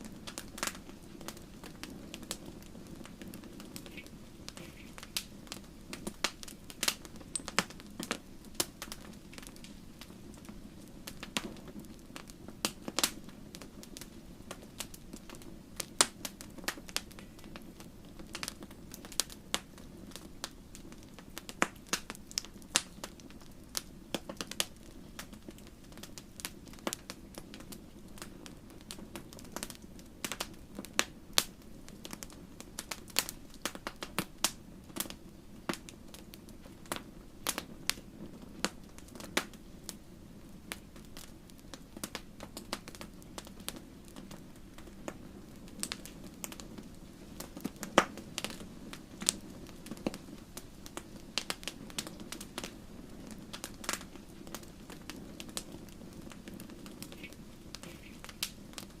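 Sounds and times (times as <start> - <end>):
fire popping and crackling: 0.0 - 59.0
fire roaring in fireplace: 0.0 - 59.0.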